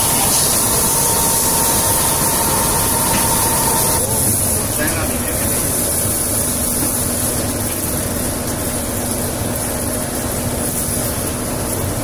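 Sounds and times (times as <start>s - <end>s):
plastic granulator running: 0.0s - 12.0s.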